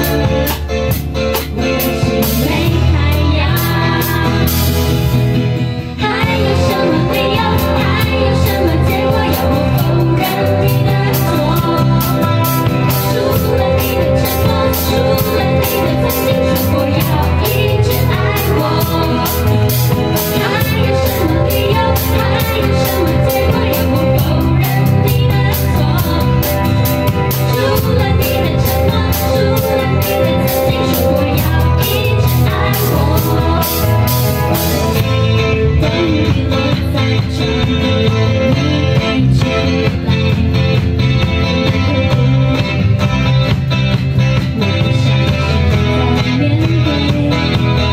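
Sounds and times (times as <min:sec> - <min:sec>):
woman singing pop ballad: 0:00.0 - 0:40.8, 0:41.5 - 0:43.2, 0:44.4 - 0:47.9
guitar and drum beat: 0:00.0 - 0:47.9.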